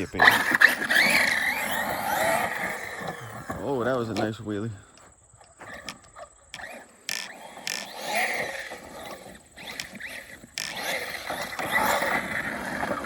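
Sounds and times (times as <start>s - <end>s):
electric motor whining: 0.0s - 4.0s, 5.6s - 13.0s
tyres scraping through dirt: 0.0s - 13.0s.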